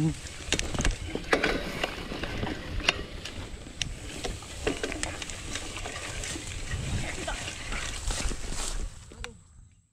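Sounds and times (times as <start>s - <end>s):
vegetation brushing against bike: 0.0s - 9.1s
bike clicking and rattling: 0.0s - 9.3s.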